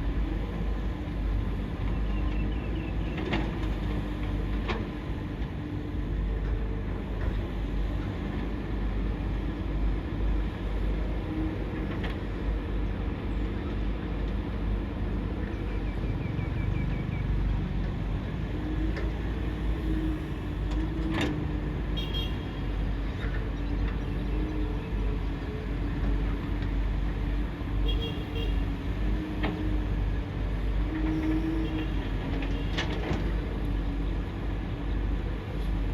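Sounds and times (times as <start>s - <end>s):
excavator engine running: 0.0s - 35.9s.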